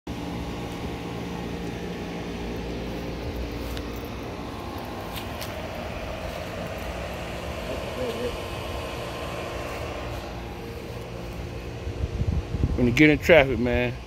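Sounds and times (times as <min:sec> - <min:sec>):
low mechanical hum: 0:00.1 - 0:14.0.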